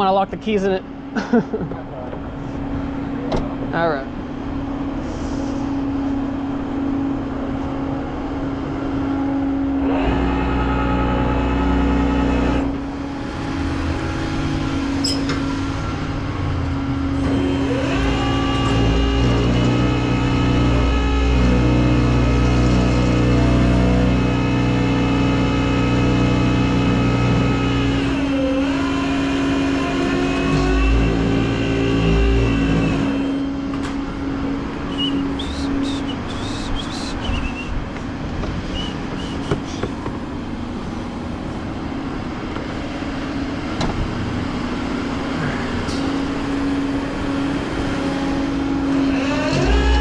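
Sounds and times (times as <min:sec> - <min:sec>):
vehicle engine running: 0:01.6 - 0:50.0.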